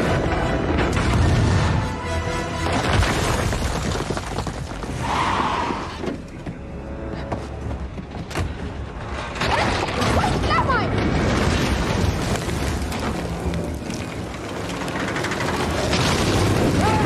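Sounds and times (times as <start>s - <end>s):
dramatic score music: 0.0s - 3.7s, 4.9s - 17.0s.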